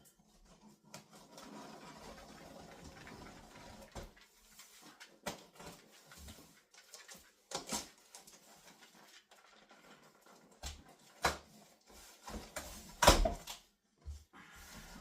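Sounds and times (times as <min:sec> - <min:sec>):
cardboard and foam rustling: 0:00.1 - 0:15.0.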